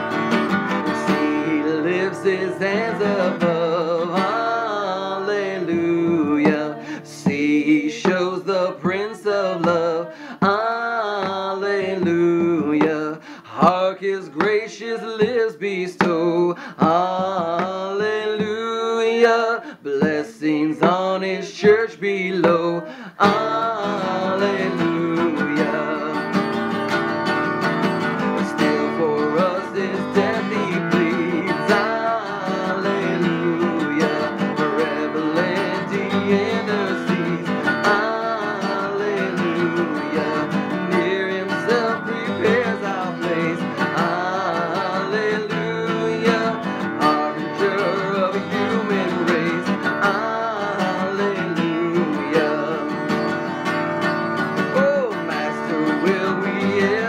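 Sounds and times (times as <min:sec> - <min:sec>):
acoustic guitar hymn music: 0:00.0 - 0:57.0.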